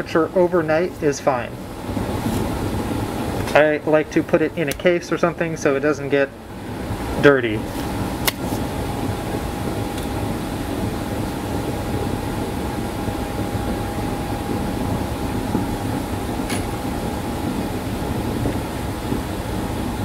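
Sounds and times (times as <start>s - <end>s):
faint steady hum: 0.0s - 20.0s
low rumbling background noise: 0.0s - 20.0s.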